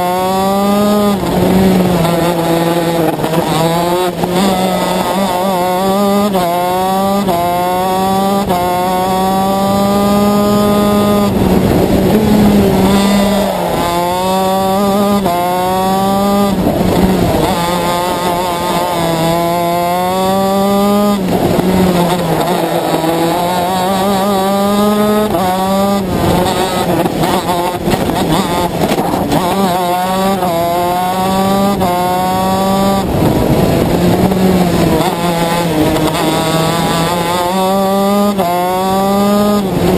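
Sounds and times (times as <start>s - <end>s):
kart engine shifting gears: 0.0s - 39.9s.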